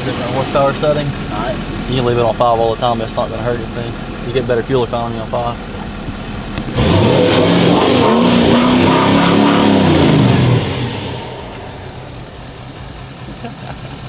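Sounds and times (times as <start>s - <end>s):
pickup truck engine revving: 0.0s - 14.0s.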